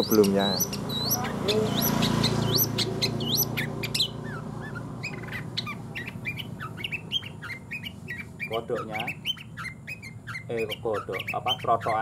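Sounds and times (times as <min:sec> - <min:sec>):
bird singing whistles and chirps: 0:00.0 - 0:12.0.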